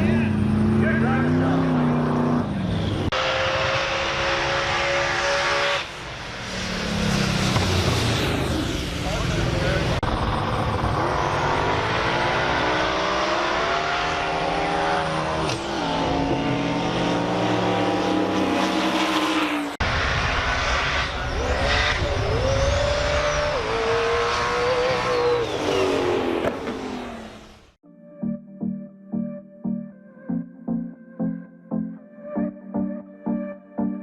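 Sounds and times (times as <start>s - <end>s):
race car engines revving: 0.0s - 27.8s.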